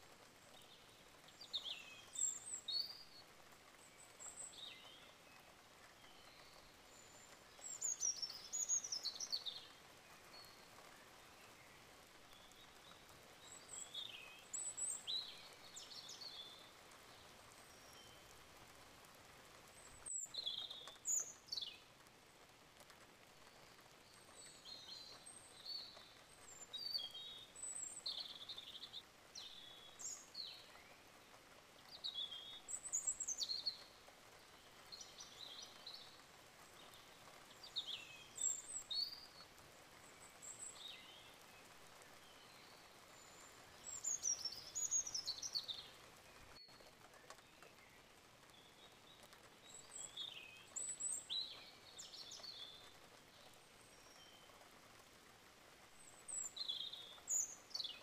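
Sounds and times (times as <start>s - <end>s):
faint steady hiss: 0.0s - 58.0s
small birds chirping: 0.0s - 58.0s.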